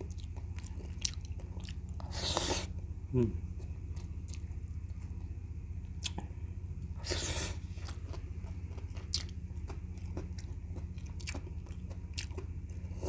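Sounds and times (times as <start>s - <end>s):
person chewing meat: 0.0s - 2.8s, 3.9s - 5.2s, 6.0s - 6.3s, 7.0s - 13.0s
low hum: 0.0s - 13.0s.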